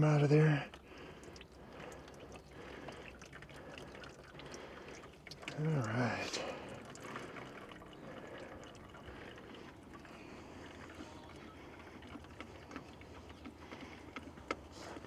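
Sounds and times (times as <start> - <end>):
oil dribbling into drain pan: 0.0 - 15.0.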